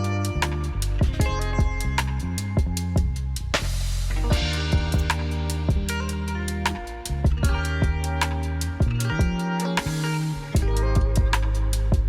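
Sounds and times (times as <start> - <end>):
bass notes: 0.0 - 12.0
plucked guitar: 0.0 - 12.0
steady beat: 0.0 - 12.0.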